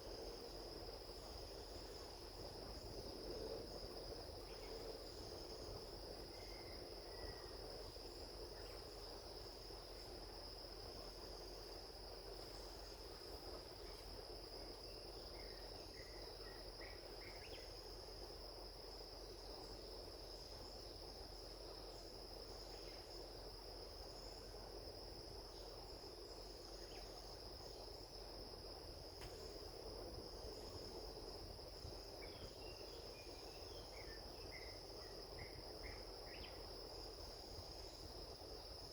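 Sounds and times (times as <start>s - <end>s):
insect trill: 0.0s - 38.9s.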